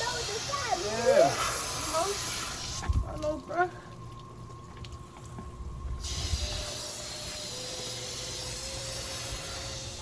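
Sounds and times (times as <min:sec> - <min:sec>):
hose water spraying: 0:00.0 - 0:03.7, 0:04.8 - 0:10.0.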